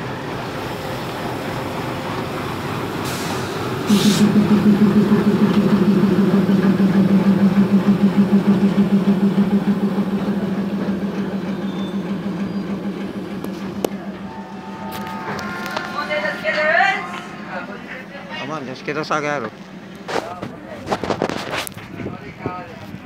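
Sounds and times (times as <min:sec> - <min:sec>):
diesel locomotive engine passing: 0:00.0 - 0:21.0.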